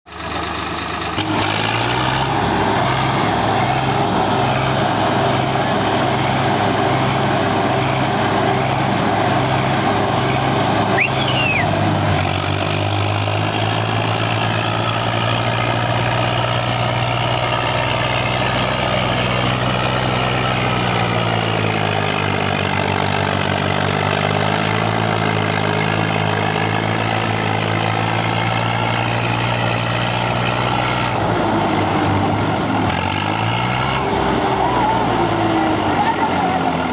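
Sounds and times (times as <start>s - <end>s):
diesel tractor engines running: 0.1s - 36.9s.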